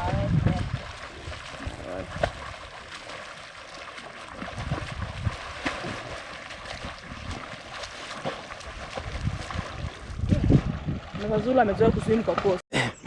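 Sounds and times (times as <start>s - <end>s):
water splashing and lapping: 0.0s - 12.6s.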